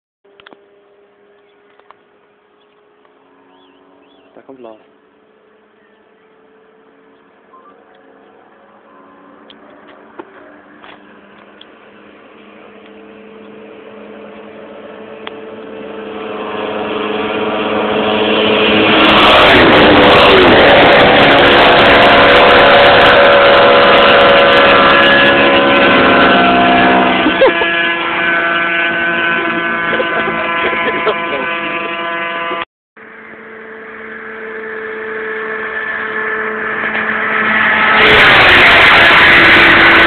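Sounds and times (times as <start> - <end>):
motorcycle engine approaching: 0.3 - 40.0.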